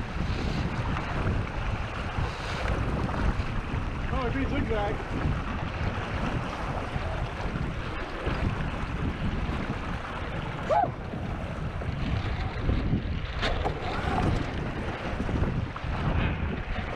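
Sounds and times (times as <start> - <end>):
water rushing past hull: 0.0 - 16.9
wind buffeting microphone: 0.0 - 16.9.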